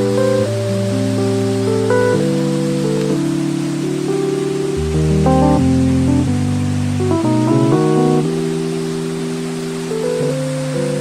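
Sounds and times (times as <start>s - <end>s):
calm music with sustained chords: 0.0s - 11.0s.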